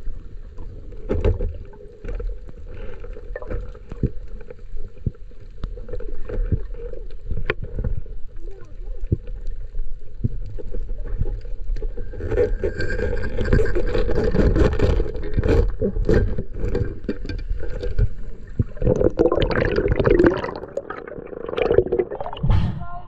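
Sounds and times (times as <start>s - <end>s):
small clicks and crackles: 0.0s - 18.9s
water rushing and bubbling: 0.0s - 22.9s
underwater rumble: 0.0s - 23.0s.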